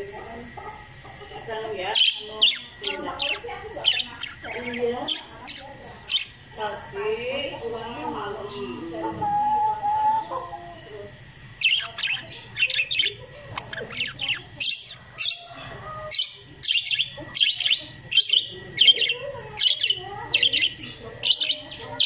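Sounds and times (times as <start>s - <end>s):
parakeets chirping: 0.0s - 22.0s.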